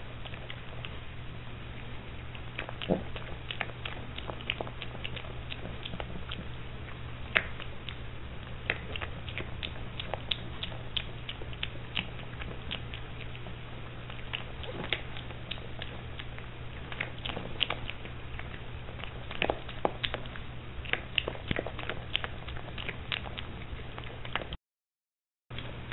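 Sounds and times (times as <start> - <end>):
piglet crunching feed pellets: 0.0 - 24.6.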